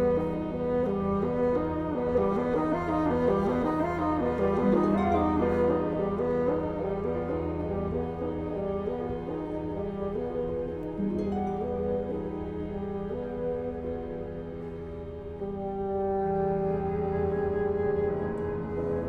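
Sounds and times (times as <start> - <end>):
chamber music with bassoon: 0.0 - 19.0.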